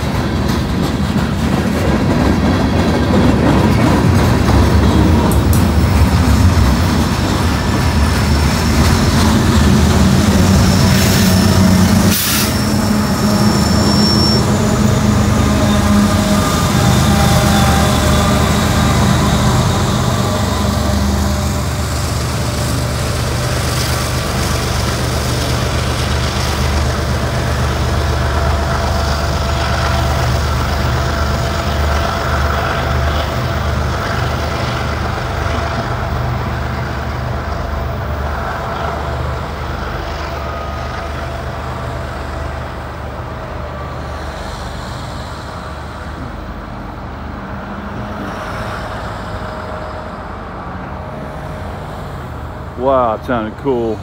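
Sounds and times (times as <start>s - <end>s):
locomotive engine drone: 0.0s - 54.0s
wheel and rail rumble: 0.0s - 54.0s.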